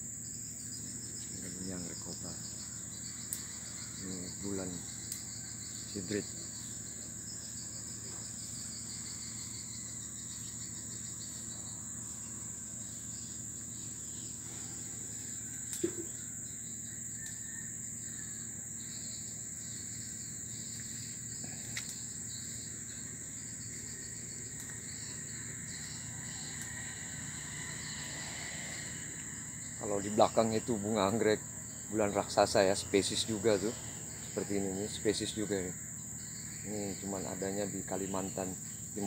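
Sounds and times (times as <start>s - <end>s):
crickets shrilling: 0.0s - 39.0s.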